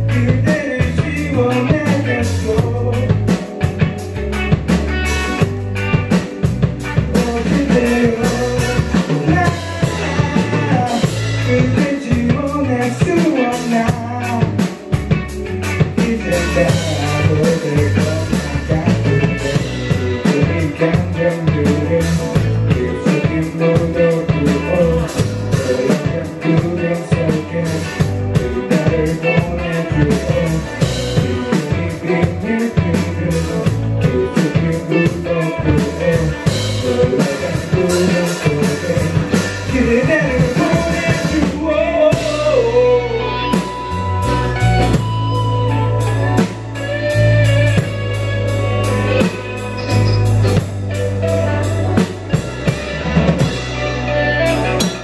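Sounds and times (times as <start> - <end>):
drum kit beat: 0.0 - 55.0
electric bass: 0.0 - 55.0
electric guitars: 0.0 - 55.0
man singing: 0.0 - 55.0.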